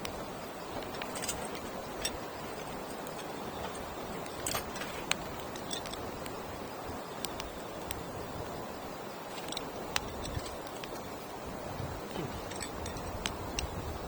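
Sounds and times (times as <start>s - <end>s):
campfire crackling and popping: 0.0s - 14.0s
fire hiss: 0.0s - 14.0s.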